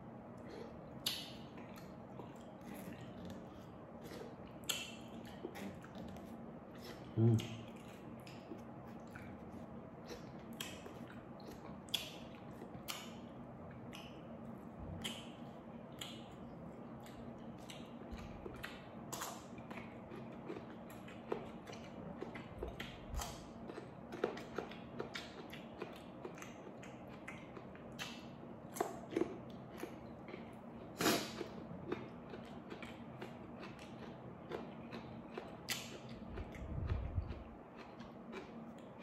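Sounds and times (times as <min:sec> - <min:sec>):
faint low hum: 0:00.0 - 0:39.0
person chewing food: 0:00.3 - 0:39.0.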